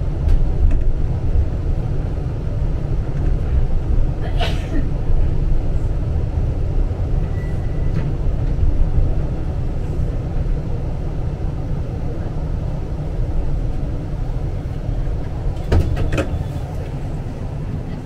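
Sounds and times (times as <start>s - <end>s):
tram rumbling on rails: 0.0s - 18.0s.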